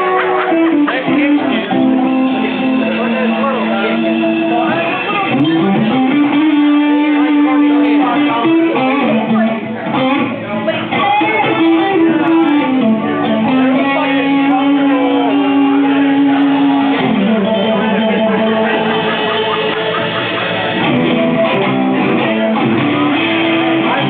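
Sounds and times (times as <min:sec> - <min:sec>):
sliding lead melody: 0:00.0 - 0:24.0
strummed guitar: 0:00.0 - 0:24.0.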